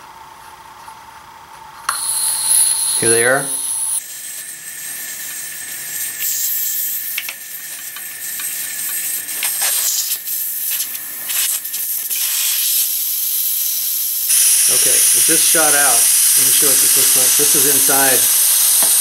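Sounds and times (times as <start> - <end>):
air hissing from tire valve: 1.9 - 19.0.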